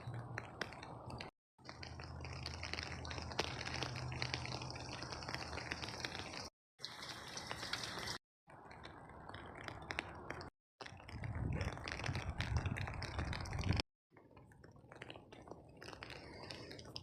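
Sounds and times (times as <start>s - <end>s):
rain falling: 0.0s - 13.8s
close raindrops ticking: 0.0s - 17.0s.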